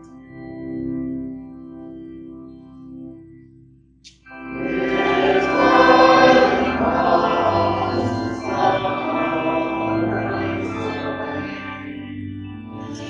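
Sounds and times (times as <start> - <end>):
hymn music with held notes: 0.0 - 13.0.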